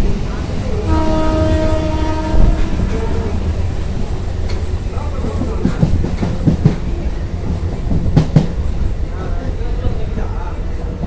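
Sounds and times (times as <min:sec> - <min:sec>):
train rumbling on track: 0:00.0 - 0:11.0
wheels clacking over rail joints: 0:00.0 - 0:11.0.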